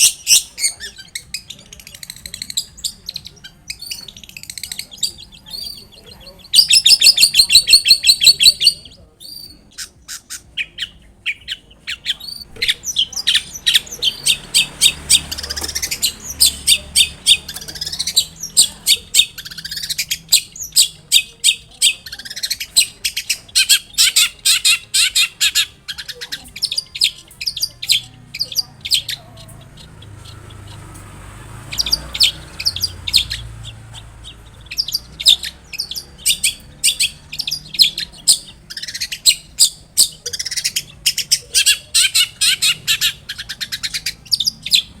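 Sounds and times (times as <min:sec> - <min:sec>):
bird singing sharp high notes: 0:00.0 - 0:45.0.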